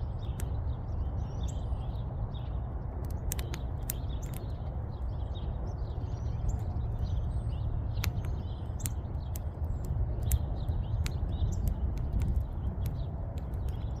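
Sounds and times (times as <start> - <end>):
birds chirping: 0.0 - 14.0
low steady rumble: 0.0 - 14.0
wood fire crackling and popping: 0.0 - 14.0.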